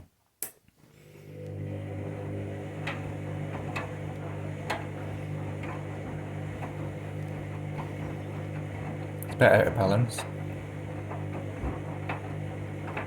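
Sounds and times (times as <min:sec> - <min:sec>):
washing machine motor humming: 0:00.9 - 0:13.0.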